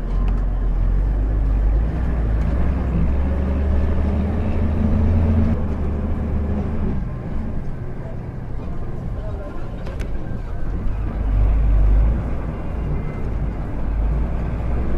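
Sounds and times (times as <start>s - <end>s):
bus engine rumbling: 0.0s - 14.9s.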